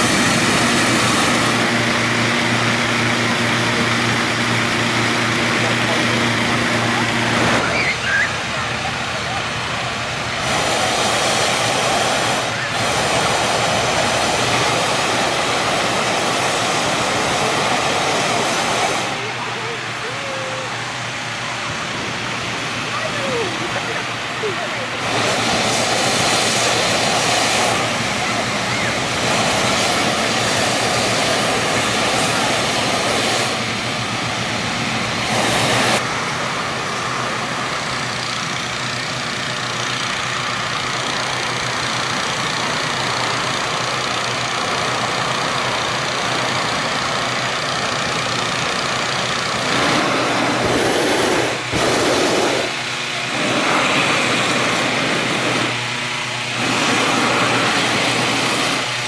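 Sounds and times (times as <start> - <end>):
balloon burners hissing: 0.0 - 59.0
engine-driven fans running: 0.0 - 59.0.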